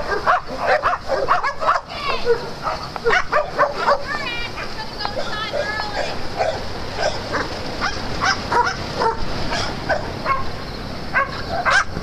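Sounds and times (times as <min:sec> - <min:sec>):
small dogs barking and yipping: 0:00.0 - 0:12.0.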